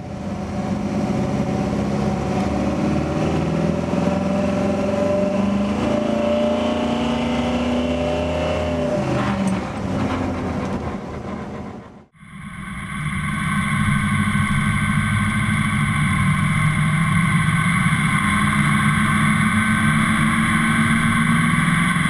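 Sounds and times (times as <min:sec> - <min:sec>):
car engine revving: 0:00.0 - 0:11.8, 0:12.8 - 0:22.0.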